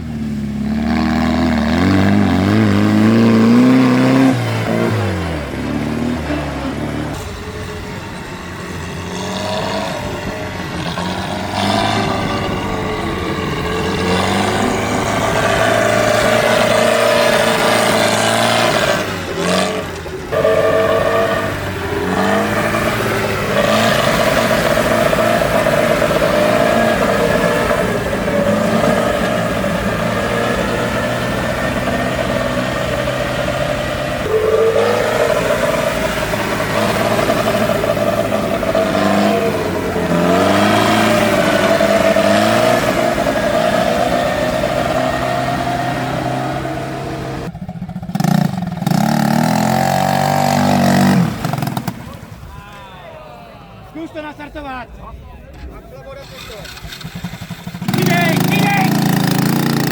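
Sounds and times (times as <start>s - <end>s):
tractor engine revving: 0.0s - 59.9s.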